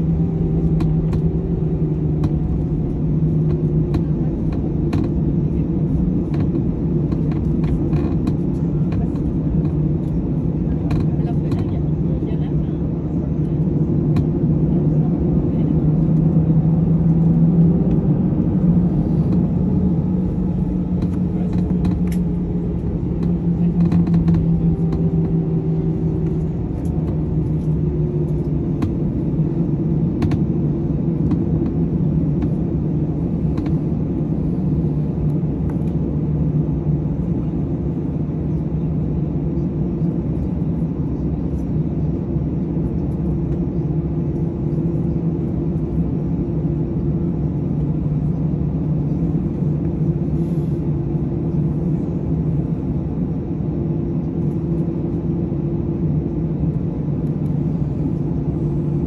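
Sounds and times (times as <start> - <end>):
jet engine and wheel rumble: 0.0 - 59.0.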